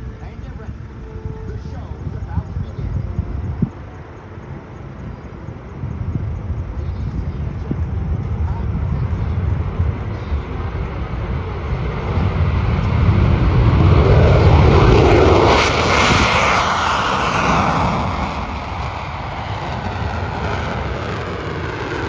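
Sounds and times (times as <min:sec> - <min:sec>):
jet engines roaring at takeoff: 0:00.0 - 0:22.0.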